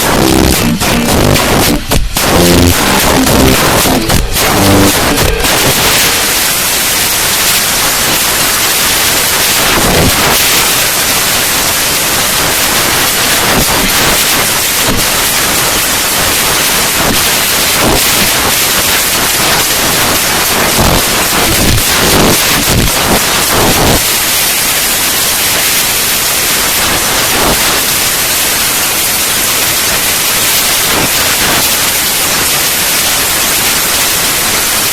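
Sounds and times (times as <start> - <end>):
loud steady hiss: 0.0 - 34.9.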